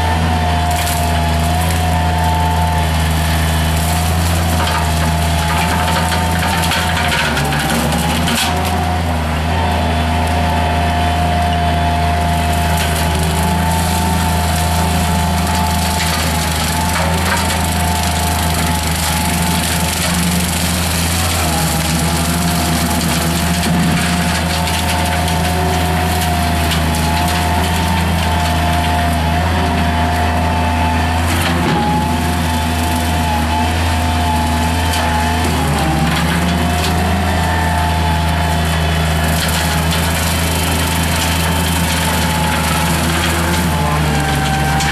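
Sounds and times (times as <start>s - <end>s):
loader engine running: 0.0s - 44.9s.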